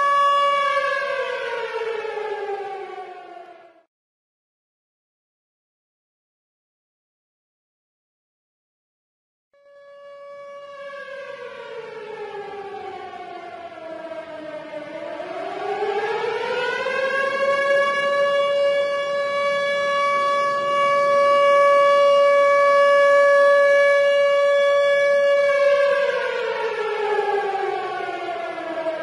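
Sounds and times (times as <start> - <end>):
tornado warning siren: 0.0 - 3.9, 9.6 - 29.0.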